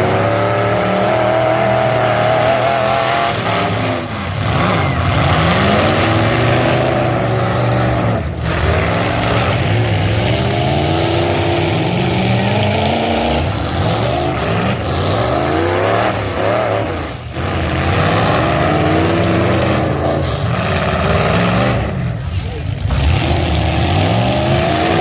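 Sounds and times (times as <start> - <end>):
truck engines revving: 0.0 - 25.0.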